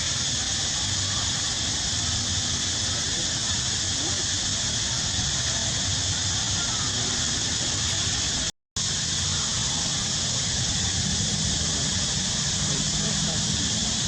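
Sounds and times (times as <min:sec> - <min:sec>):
high hiss: 0:00.0 - 0:14.0.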